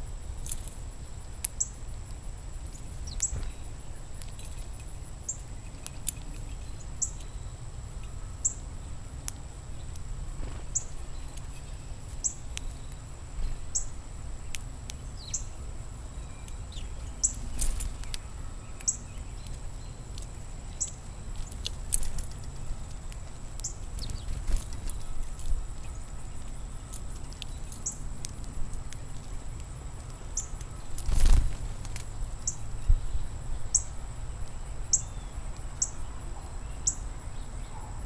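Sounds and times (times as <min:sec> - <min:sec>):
small birds chirping: 0:00.4 - 0:38.0.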